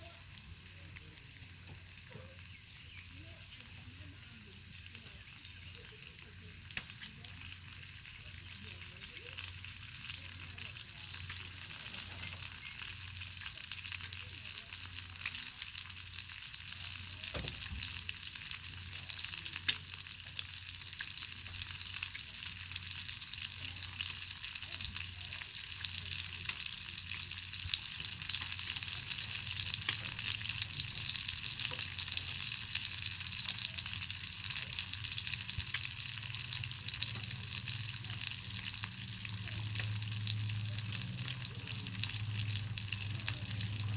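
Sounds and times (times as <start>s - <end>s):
bacon sizzling in a pan: 0.0s - 43.9s
fire crackling: 0.3s - 43.9s.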